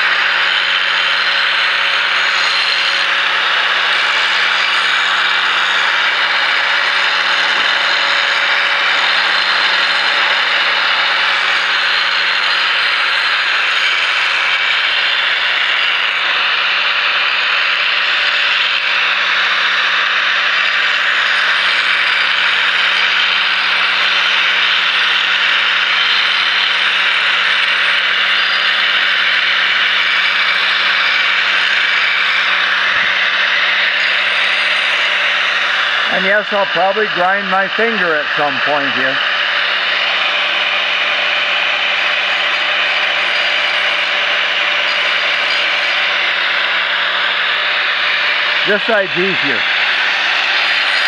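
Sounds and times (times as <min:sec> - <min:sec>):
angle grinder grinding steel: 0:00.0 - 0:51.0.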